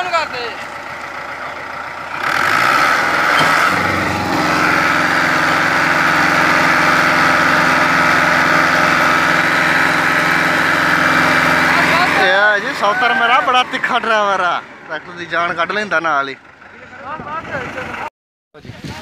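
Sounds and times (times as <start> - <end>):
tractor diesel engine revving: 0.0 - 18.1.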